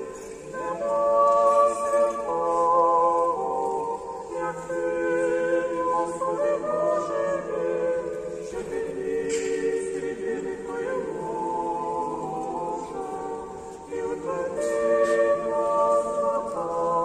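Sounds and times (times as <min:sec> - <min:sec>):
voices singing chant in harmony: 0:00.0 - 0:17.0.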